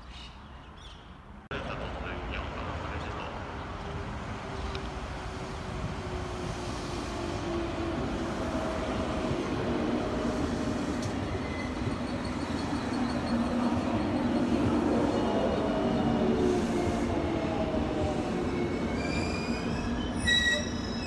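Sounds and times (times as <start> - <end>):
electric train rumble: 1.5 - 21.0.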